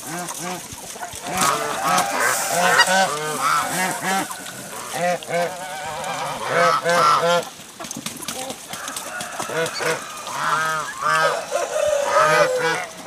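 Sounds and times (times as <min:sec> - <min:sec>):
farm animals calling: 0:00.0 - 0:13.0.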